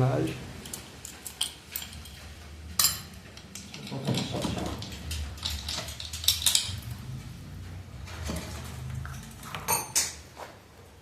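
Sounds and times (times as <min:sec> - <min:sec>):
steady low hum: 0:00.0 - 0:11.0
metal engine parts clinking: 0:00.6 - 0:10.3.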